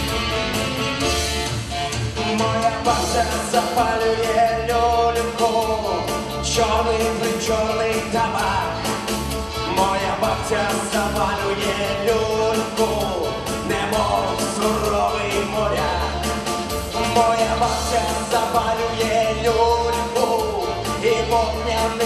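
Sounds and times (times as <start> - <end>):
amplified backing music with beat: 0.0 - 22.0
man singing into a microphone: 2.2 - 9.0, 9.6 - 22.0.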